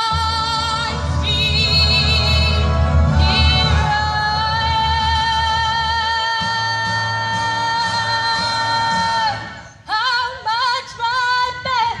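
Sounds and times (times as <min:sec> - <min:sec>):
backing track: 0:00.0 - 0:09.7
woman singing with vibrato: 0:00.0 - 0:12.0.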